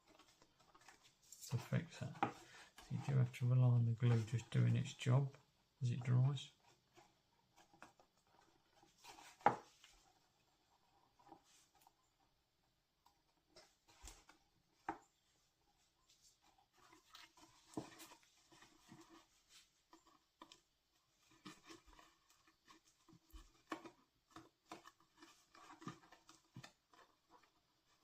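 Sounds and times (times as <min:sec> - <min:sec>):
cardstock rustling and tapping: 0:00.0 - 0:12.2, 0:13.1 - 0:28.0.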